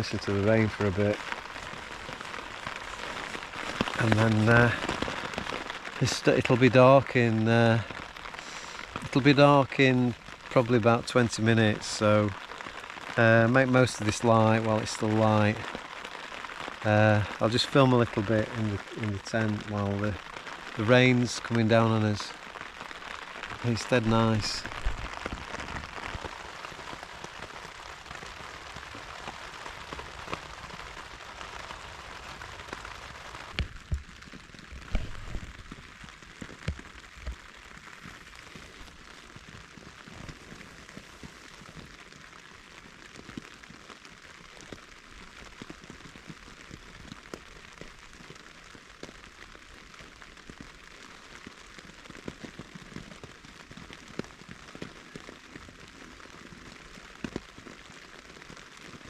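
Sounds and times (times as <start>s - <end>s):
rain on tent fabric: 0.0s - 59.0s.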